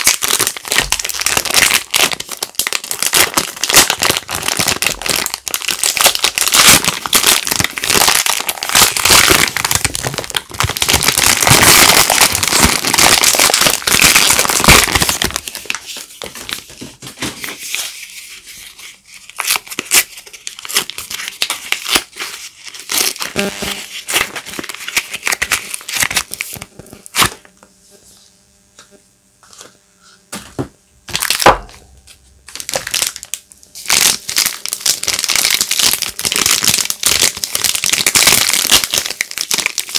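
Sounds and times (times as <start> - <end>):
soap wrappers crinkling and tearing: 0.0 - 27.4, 31.1 - 31.5, 32.5 - 39.9.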